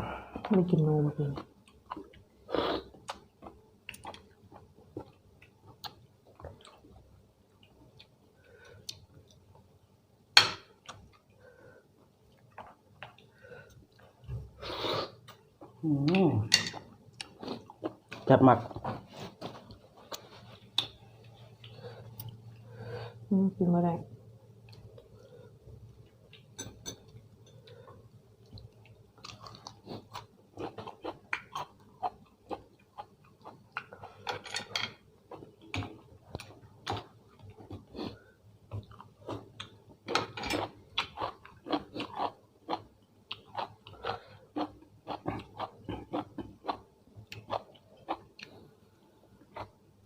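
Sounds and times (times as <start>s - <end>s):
person chewing food: 1.4s - 9.6s, 12.0s - 15.8s, 16.8s - 18.3s, 19.4s - 22.9s, 24.6s - 34.4s, 35.2s - 49.8s.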